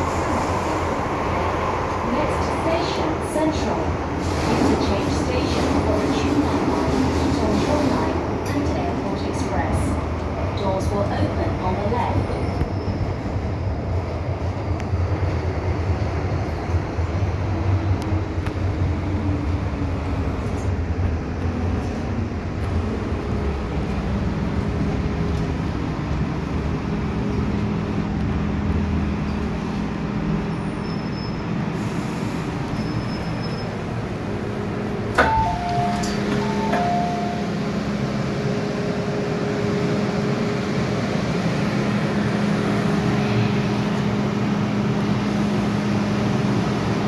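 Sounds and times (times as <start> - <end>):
electric train rumbling: 0.0 - 47.0.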